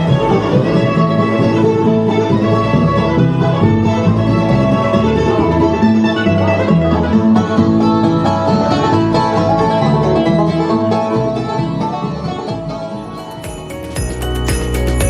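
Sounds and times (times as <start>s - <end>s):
bluegrass banjo and guitar music: 0.0s - 15.0s.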